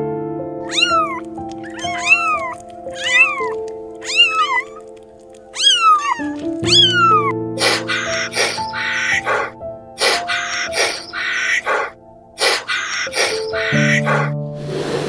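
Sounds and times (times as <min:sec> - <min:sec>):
soft piano music: 0:00.0 - 0:15.0
kittens meowing: 0:00.6 - 0:14.3.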